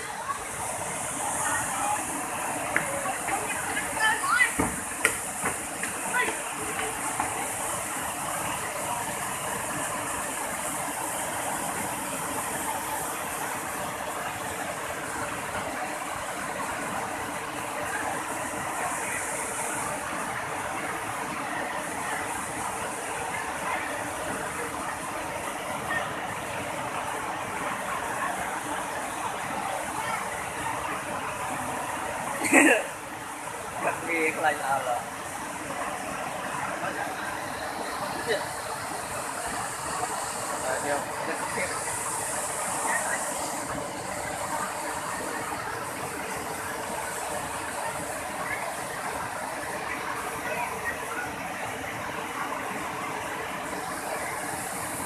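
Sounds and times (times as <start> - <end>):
water rushing over waterfall: 0.0 - 55.0.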